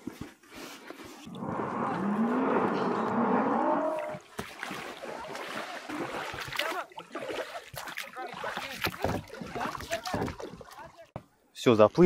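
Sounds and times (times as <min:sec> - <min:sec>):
oars splashing in water: 0:01.2 - 0:11.2.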